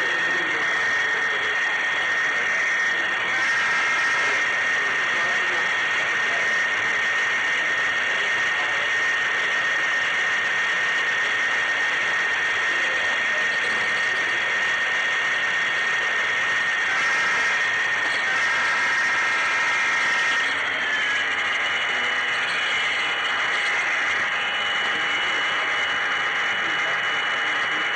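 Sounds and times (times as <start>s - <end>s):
lower motor whine: 0.0s - 27.9s
model train motor whining: 0.0s - 27.9s.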